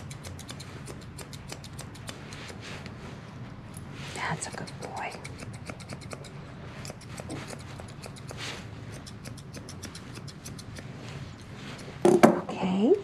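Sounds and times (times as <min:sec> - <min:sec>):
grooming shears snipping: 0:00.0 - 0:03.0, 0:04.4 - 0:12.0.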